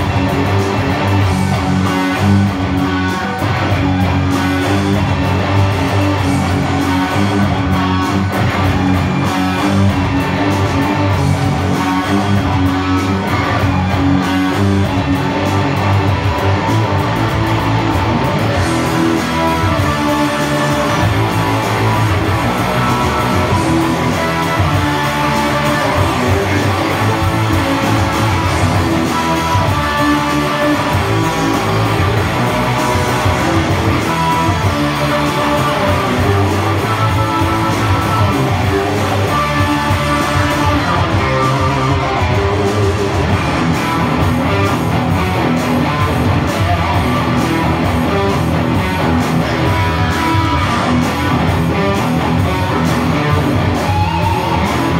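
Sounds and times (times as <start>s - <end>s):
electric guitar through amplifier: 0.0s - 54.9s.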